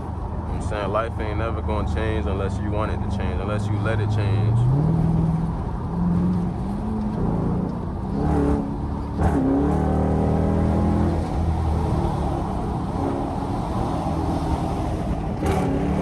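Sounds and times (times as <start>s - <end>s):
car exhaust while driving: 0.0s - 16.0s.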